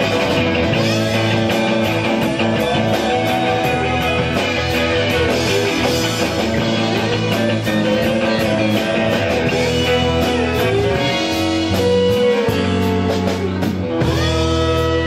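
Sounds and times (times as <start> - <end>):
drums with cymbal strokes: 0.0 - 15.0
electric bass: 0.0 - 15.0
electric guitar lead bending notes: 0.0 - 15.0.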